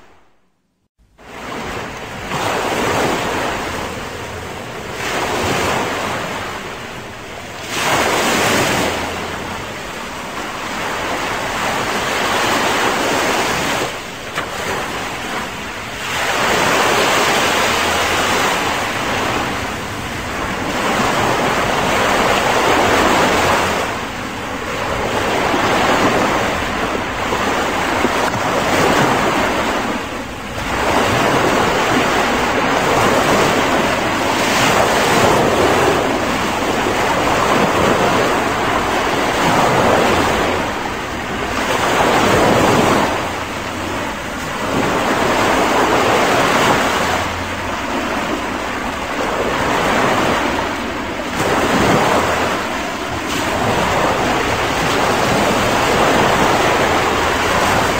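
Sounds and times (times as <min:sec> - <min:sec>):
ocean surf breaking on beach: 0:01.1 - 0:57.9.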